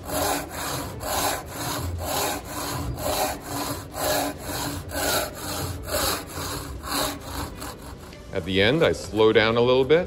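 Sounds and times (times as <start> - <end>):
hand saw cutting wood: 0.0 - 8.2.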